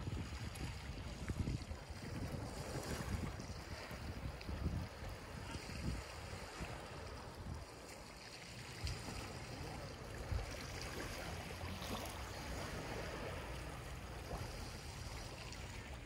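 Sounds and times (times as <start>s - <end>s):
waves lapping against steps: 0.0s - 16.0s
wind rumble on microphone: 0.0s - 16.0s.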